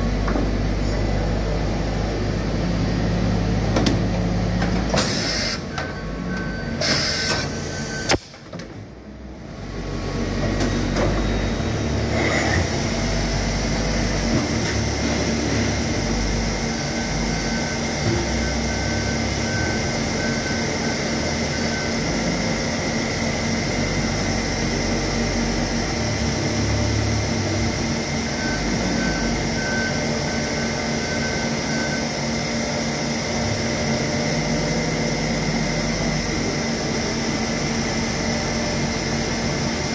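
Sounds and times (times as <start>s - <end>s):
machine humming with high whine: 0.0s - 39.9s.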